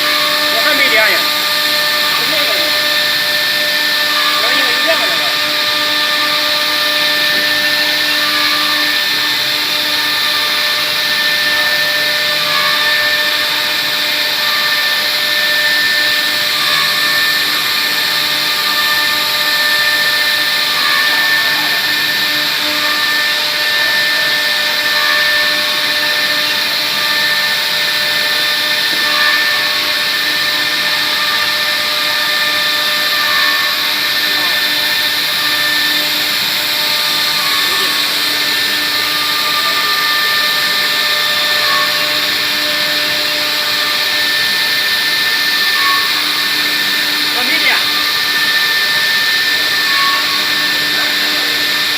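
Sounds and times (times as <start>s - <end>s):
router spindle high whine: 0.0s - 51.9s.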